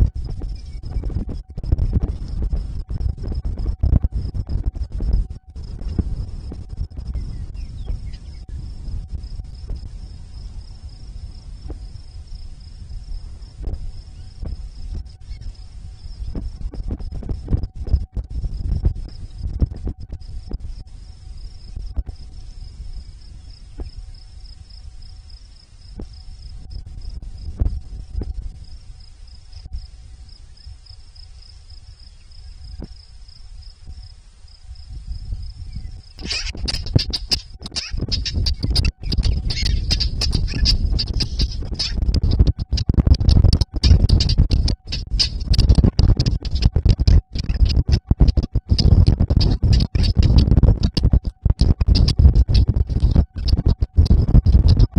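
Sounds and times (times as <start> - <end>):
insects trilling: 0.0 - 54.9
wind rumbling on microphone: 0.0 - 54.9.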